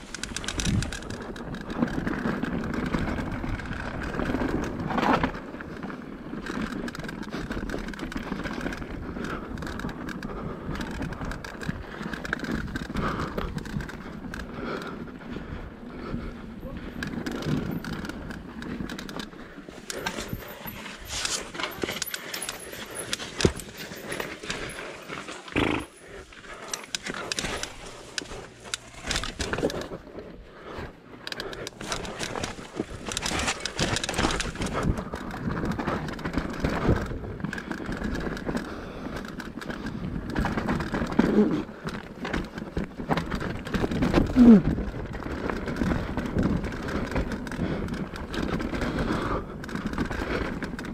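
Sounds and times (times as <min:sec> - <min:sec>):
mountain bike rattling: 0:00.0 - 0:50.9
tyres on dirt: 0:00.0 - 0:50.9.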